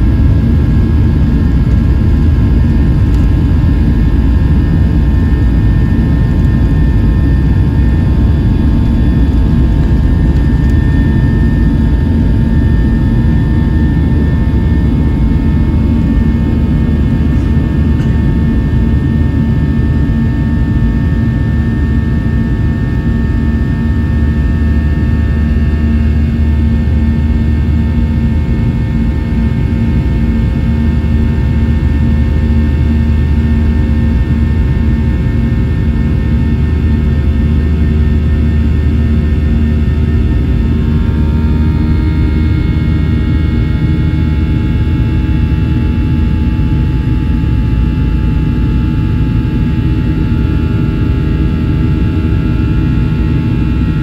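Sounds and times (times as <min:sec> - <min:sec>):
deep hum: 0:00.0 - 0:54.0
jet engine roar from cabin: 0:00.0 - 0:54.0.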